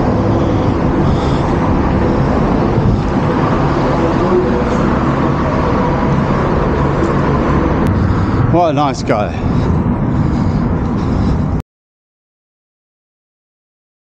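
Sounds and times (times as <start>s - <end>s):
car road and engine noise: 0.0s - 11.6s.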